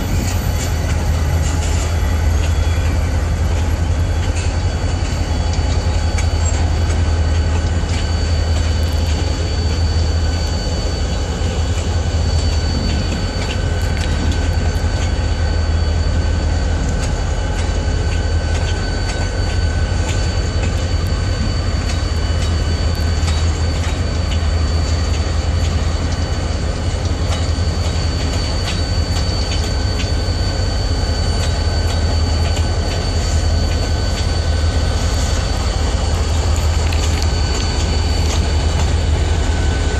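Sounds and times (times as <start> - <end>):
high wheel squeal: 0.0 - 39.9
steel wheels rumbling on rail: 0.0 - 39.9.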